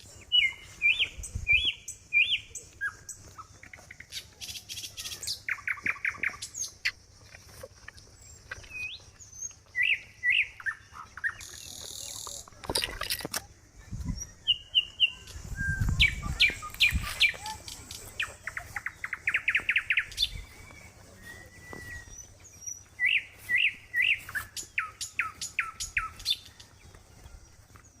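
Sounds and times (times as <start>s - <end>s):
birds chirping: 0.0s - 28.0s
bird trill: 0.1s - 7.0s, 8.2s - 12.5s, 14.0s - 27.3s.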